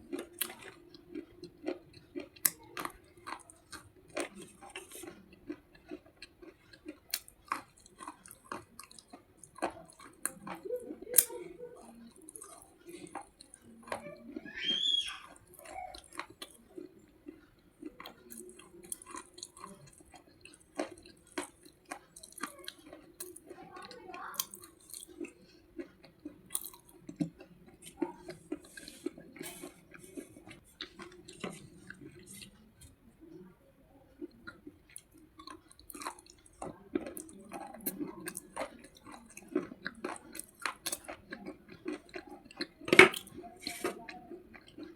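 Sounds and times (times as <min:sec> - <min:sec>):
brittle chewing crunches: 0:00.0 - 0:33.5, 0:34.2 - 0:44.9.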